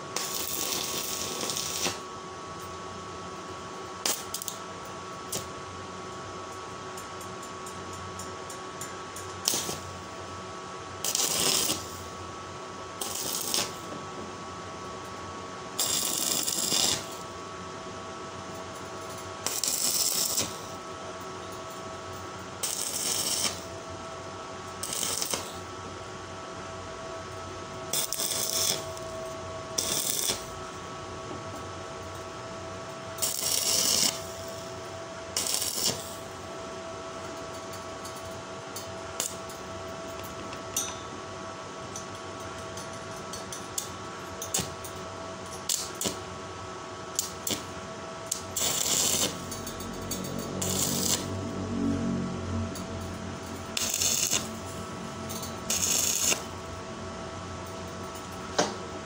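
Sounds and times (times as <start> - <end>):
arc welder crackling and hissing: 0.0 - 40.8, 41.5 - 59.0
steady hum: 0.0 - 59.0.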